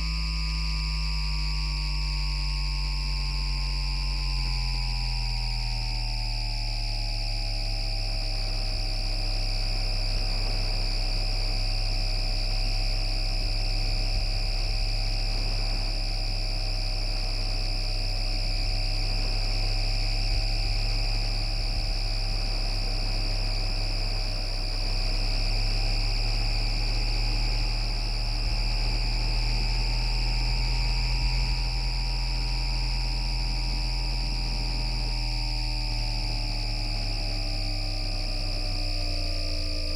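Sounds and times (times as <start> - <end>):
tram motor whine and hum: 0.0 - 39.9.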